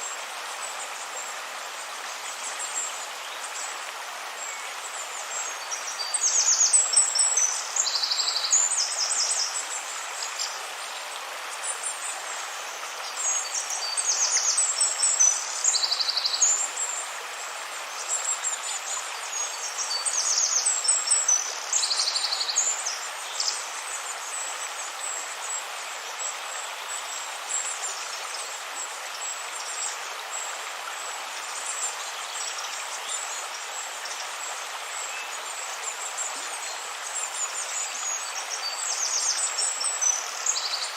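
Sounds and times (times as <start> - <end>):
river flowing: 0.0 - 40.9
small birds trilling and chirping: 0.0 - 40.9.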